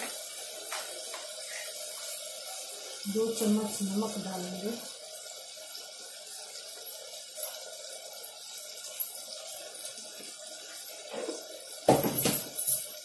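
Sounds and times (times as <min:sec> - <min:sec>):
spices sizzling in oil: 0:00.0 - 0:13.0.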